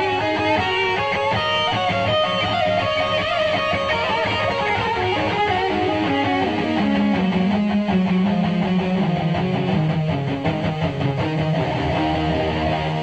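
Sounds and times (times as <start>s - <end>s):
electric guitar melodic line: 0.0s - 13.0s.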